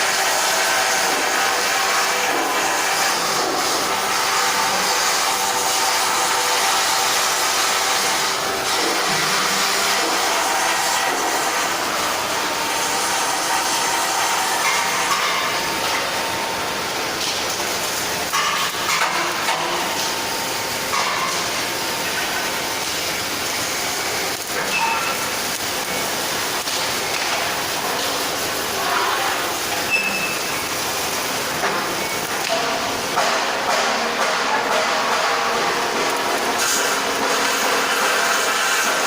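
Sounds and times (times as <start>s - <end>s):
loud hissing welding machine: 0.0s - 39.0s.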